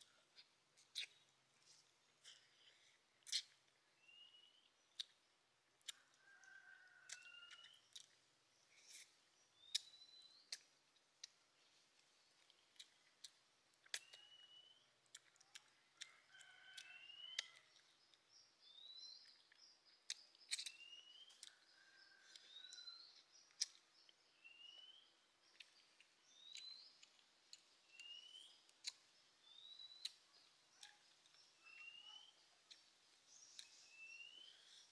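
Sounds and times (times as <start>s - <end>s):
faint birdsong chirps: 0.0s - 34.9s.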